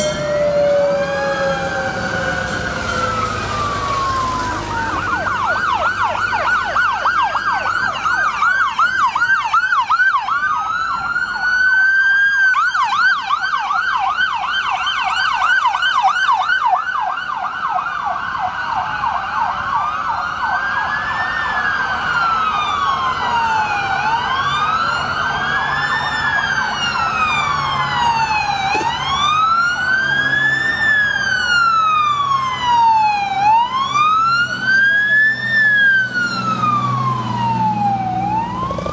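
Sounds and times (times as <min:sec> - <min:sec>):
siren wailing: 0:00.0 - 0:38.9
siren yelp: 0:00.0 - 0:38.9.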